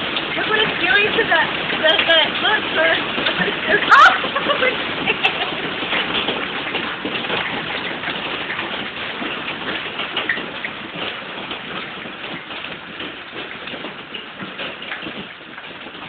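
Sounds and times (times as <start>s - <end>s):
hail pelting down: 0.0s - 16.0s.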